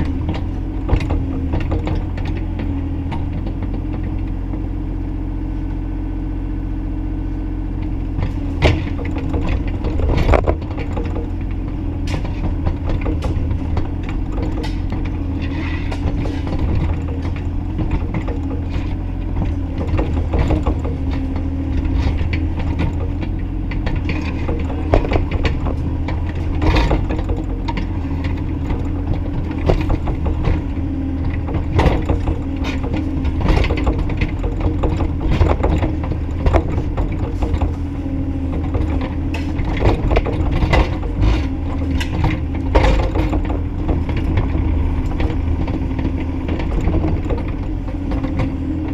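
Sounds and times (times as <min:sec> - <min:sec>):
excavator bucket clanking: 0:00.0 - 0:05.9, 0:07.3 - 0:48.9
excavator engine humming: 0:00.0 - 0:48.9.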